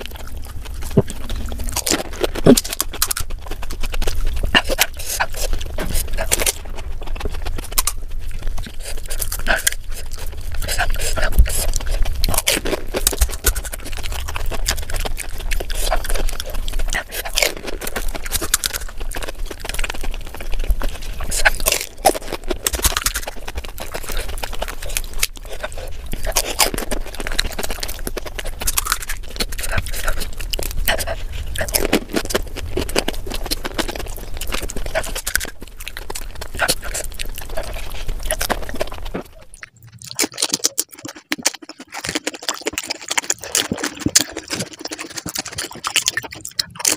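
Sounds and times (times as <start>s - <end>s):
crisp shells cracking: 0.0s - 46.9s
crunching and chewing: 0.0s - 46.9s
wet mouth sounds: 0.0s - 46.9s.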